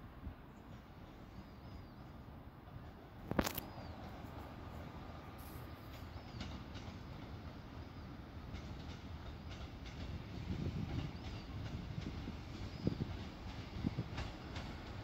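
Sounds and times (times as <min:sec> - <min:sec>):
train engine rumble: 0:00.0 - 0:15.0.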